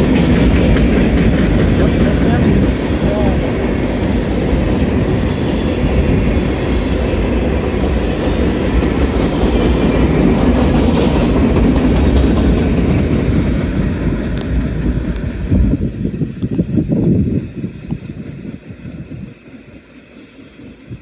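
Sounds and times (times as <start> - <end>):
steel wheels on rails: 0.0 - 21.0.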